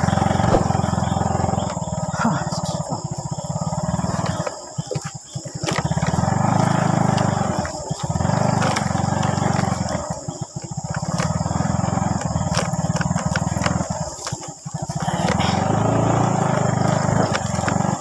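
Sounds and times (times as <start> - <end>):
small motorcycle engine surging: 0.0 - 18.0.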